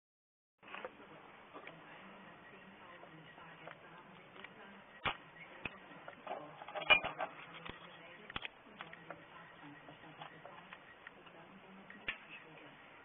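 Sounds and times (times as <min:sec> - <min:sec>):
faint low hum: 0:00.6 - 0:13.0.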